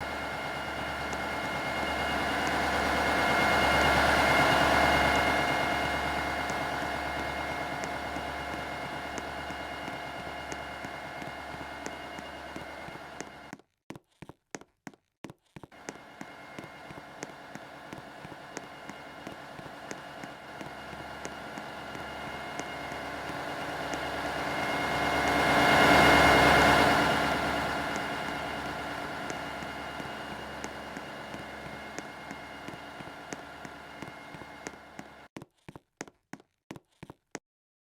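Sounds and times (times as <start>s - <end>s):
freight train rolling past: 0.0s - 13.5s, 15.8s - 35.2s
steady high ringing tone: 0.0s - 13.5s, 15.8s - 35.3s.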